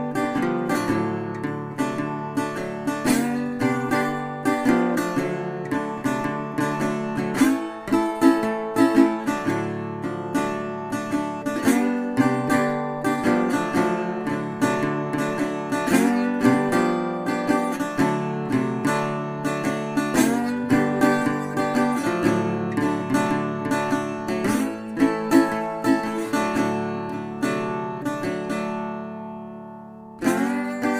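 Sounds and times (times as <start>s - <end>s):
strummed acoustic guitar: 0.0s - 30.9s.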